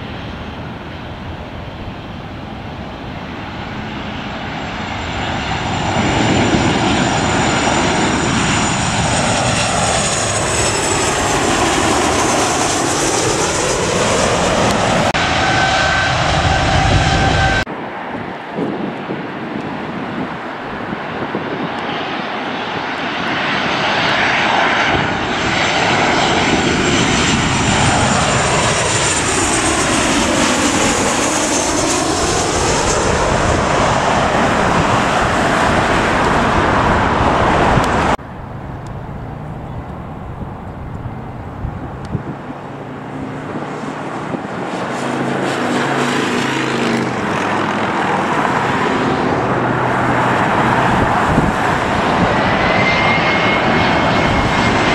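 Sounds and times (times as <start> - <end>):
jet plane passing overhead: 0.0 - 54.9
regional jet engines humming: 0.0 - 54.9.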